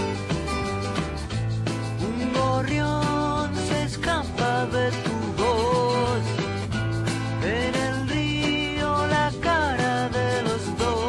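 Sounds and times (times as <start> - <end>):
steady bass line: 0.0 - 11.0.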